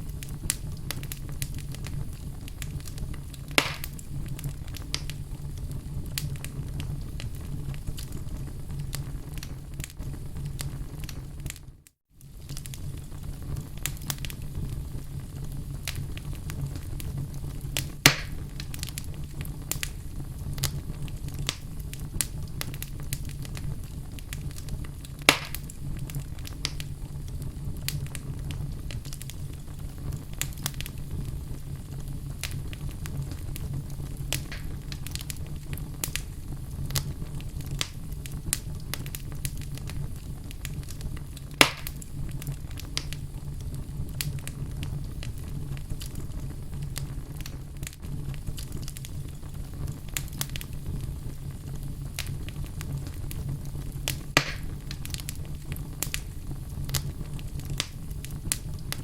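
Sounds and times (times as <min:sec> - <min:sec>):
burning logs popping: 0:00.0 - 0:59.0
wood fire crackling: 0:00.0 - 0:59.0.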